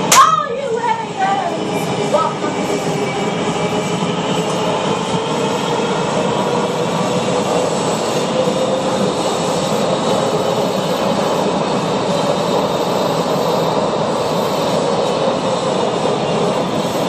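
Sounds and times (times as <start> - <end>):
train car rumbling on rails: 0.0 - 17.0.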